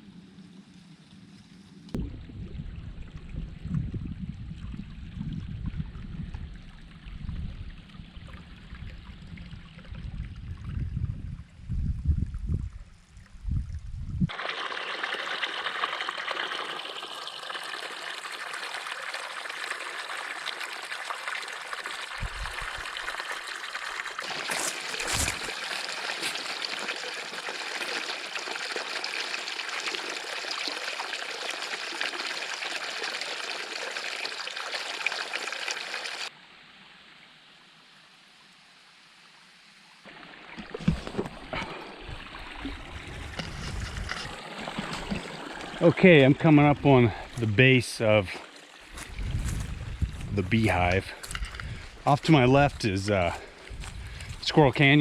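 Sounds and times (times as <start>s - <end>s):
creek water trickling: 1.9s - 11.6s, 12.2s - 55.0s.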